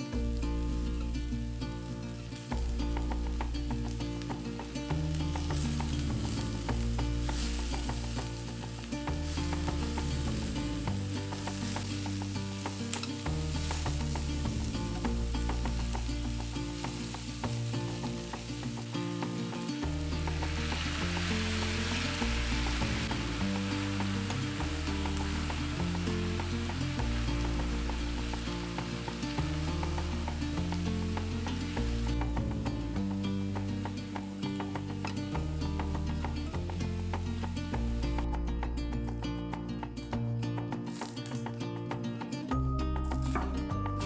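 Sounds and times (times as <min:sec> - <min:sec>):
food sizzling in a pan: 0:00.0 - 0:38.2
background music: 0:00.0 - 0:44.0.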